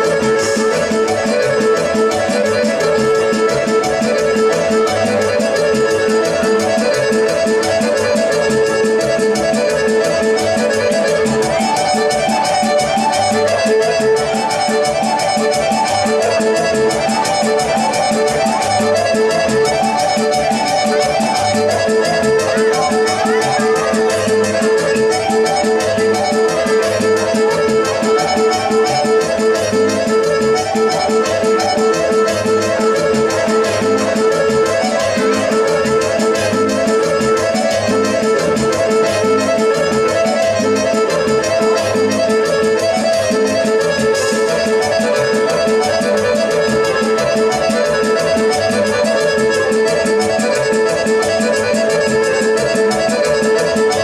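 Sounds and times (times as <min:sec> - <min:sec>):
folk dance music: 0:00.0 - 0:54.0.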